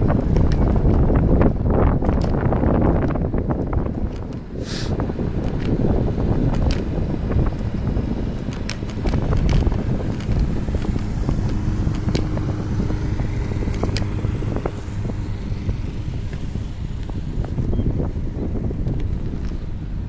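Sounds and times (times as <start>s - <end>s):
bike clicks and rattles: 0.0s - 4.4s, 5.4s - 14.8s, 15.4s - 19.8s
bicycle rolling on asphalt: 0.0s - 20.0s
wind rumbling on microphone: 0.0s - 20.0s.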